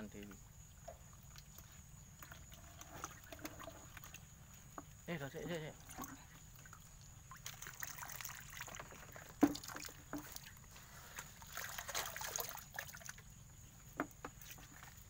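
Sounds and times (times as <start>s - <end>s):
water dripping and sloshing: 0.0s - 15.0s.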